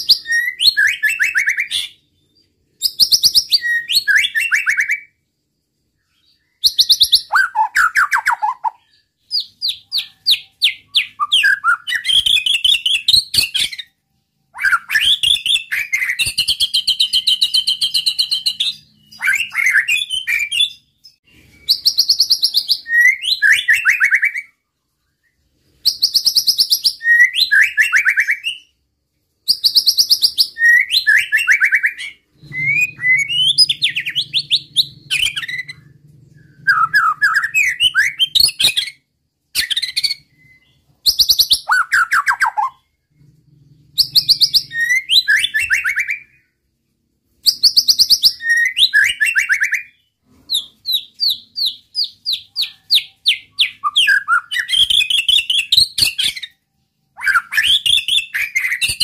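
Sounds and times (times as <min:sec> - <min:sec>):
songbird singing: 0:00.0 - 0:28.8, 0:29.4 - 0:46.6, 0:47.4 - 0:59.0.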